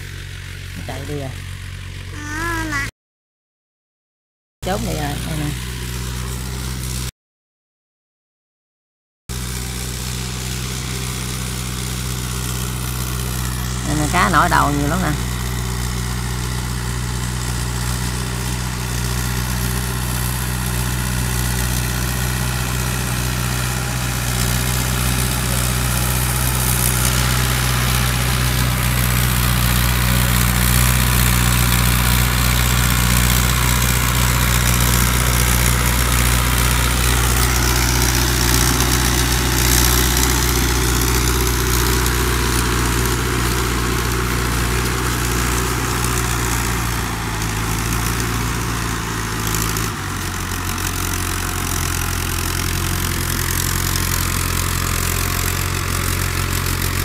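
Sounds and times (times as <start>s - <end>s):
tractor engine running: 0.0s - 2.8s, 4.6s - 7.1s, 9.3s - 57.0s.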